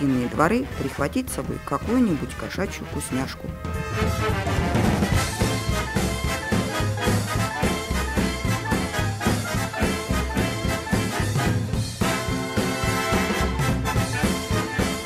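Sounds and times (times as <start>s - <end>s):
swing music with brass: 0.0s - 15.0s.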